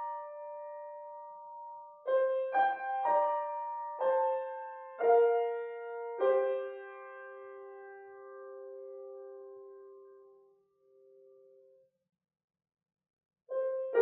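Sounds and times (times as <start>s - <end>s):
solo piano melody: 0.0s - 11.8s, 13.5s - 14.0s.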